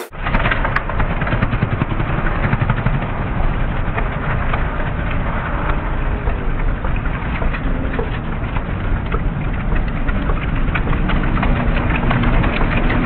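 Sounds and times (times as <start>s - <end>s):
engine crackle: 0.0s - 13.0s
riding lawn mower engines rumbling: 0.0s - 13.0s.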